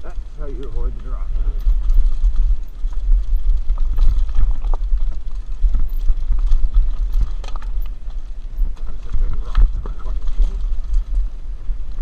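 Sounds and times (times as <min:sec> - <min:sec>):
bike rattling over rough trail: 0:00.0 - 0:12.0
wind rumbling over camera: 0:00.0 - 0:12.0.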